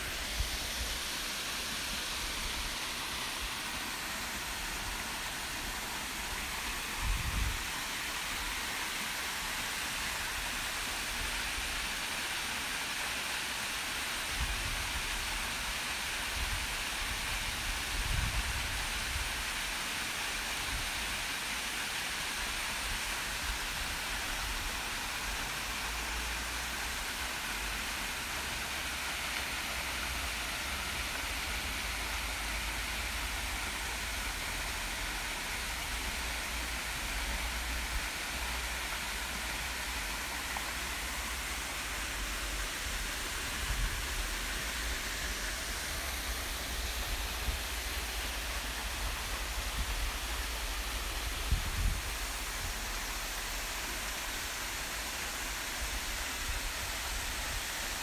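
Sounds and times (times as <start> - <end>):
waterfall rushing: 0.0 - 17.7, 21.2 - 58.0.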